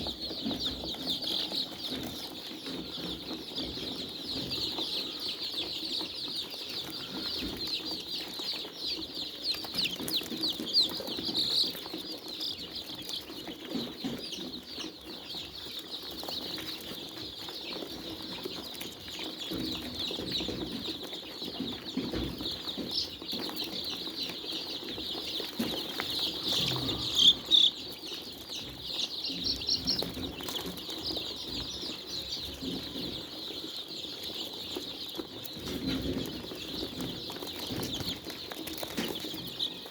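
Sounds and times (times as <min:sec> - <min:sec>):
chickens cheeping: 0:00.0 - 0:39.9
chickens clucking: 0:00.0 - 0:39.9.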